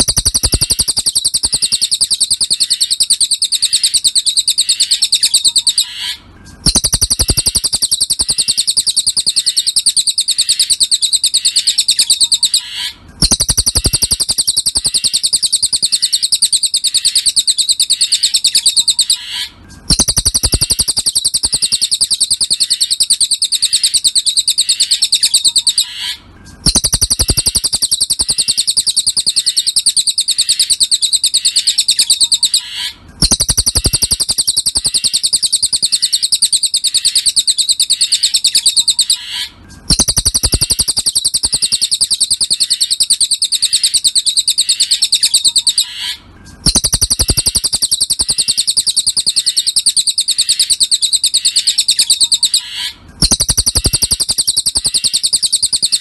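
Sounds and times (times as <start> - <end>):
bird chirping rapidly: 0.0 - 56.0.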